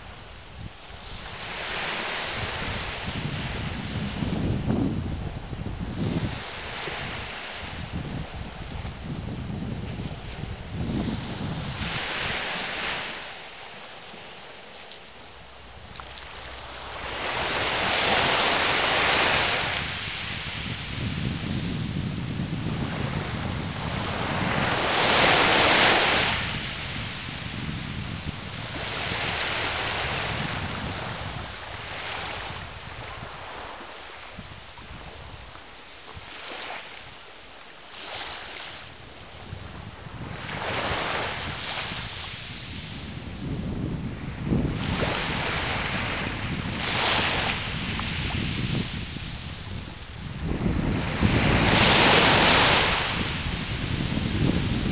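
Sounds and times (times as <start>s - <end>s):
wind buffeting microphone: 0.0s - 13.4s, 15.1s - 37.2s, 37.9s - 54.9s
surf rumble: 0.0s - 54.9s
waves breaking on beach: 0.0s - 54.9s.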